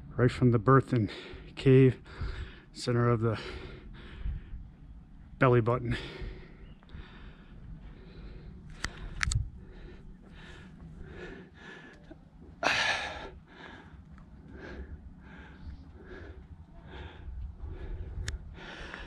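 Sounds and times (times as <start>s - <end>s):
steady low rumble: 0.0s - 19.0s
person breathing hard: 1.1s - 2.7s, 3.3s - 4.7s, 6.0s - 19.0s.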